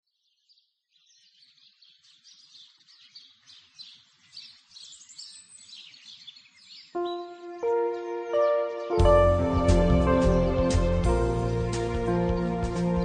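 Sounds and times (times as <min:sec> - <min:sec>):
small birds chirping and trilling: 0:00.0 - 0:13.0.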